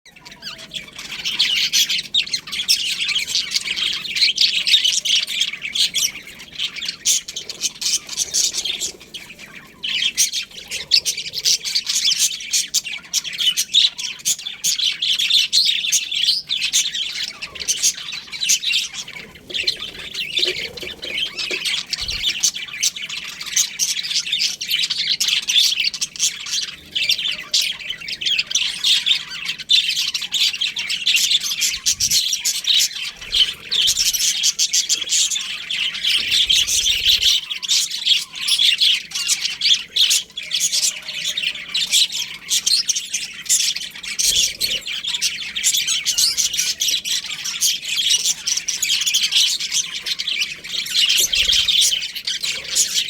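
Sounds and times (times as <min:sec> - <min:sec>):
budgerigars chirping and squawking: 0:00.1 - 0:53.0.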